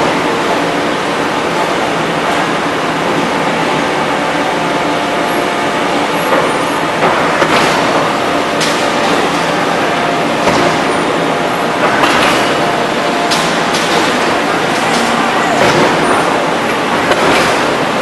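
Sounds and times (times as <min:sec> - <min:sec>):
hydraulic forging press running: 0:00.0 - 0:18.0.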